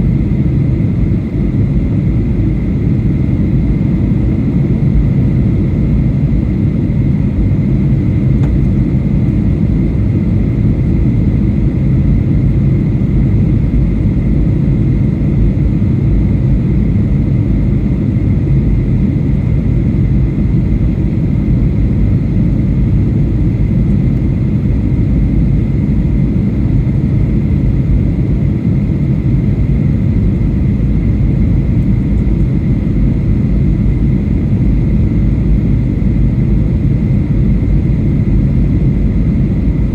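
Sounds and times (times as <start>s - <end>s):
airliner cabin rumble: 0.0s - 39.9s
faint steady whine: 0.0s - 39.9s.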